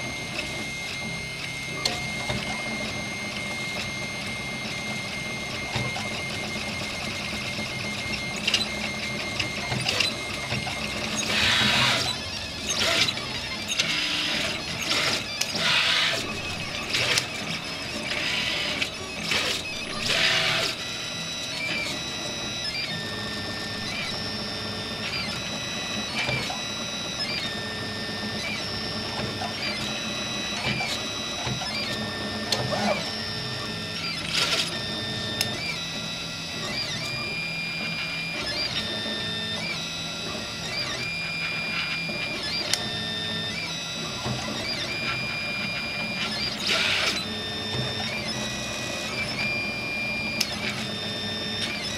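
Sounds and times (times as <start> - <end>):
stepper motors whining: 0.0 - 51.9.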